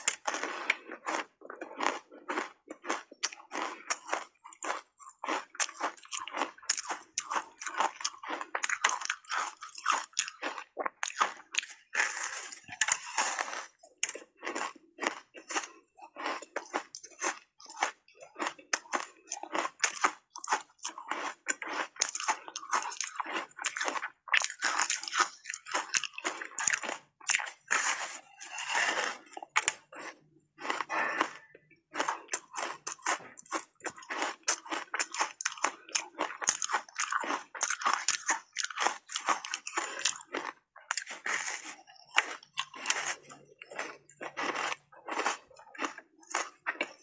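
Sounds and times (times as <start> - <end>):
ice crunching while chewed: 0.0 - 47.0.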